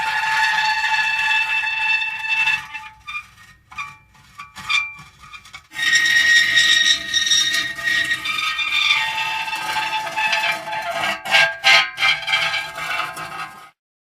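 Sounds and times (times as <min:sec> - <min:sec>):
metal creaking squeal: 0:00.0 - 0:13.8.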